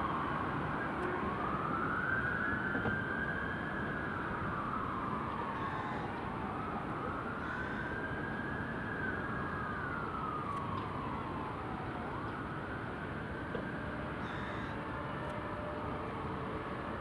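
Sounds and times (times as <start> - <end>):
city traffic noise: 0.0 - 17.0
emergency sirens wailing: 0.0 - 17.0.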